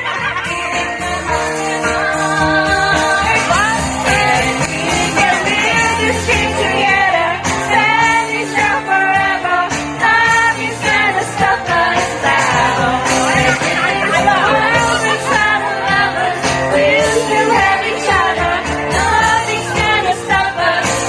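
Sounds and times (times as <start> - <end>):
person singing into a microphone: 0.0 - 21.0
pop backing track: 0.0 - 21.0.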